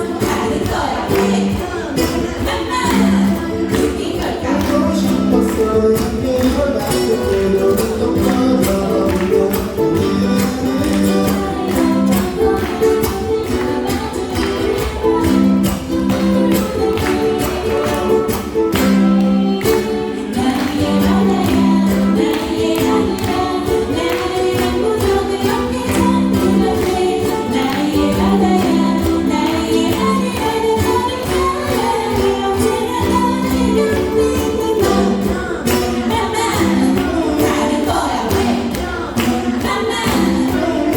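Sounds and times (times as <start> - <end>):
person singing: 0.0 - 40.9
ukulele ensemble strumming: 0.0 - 40.9.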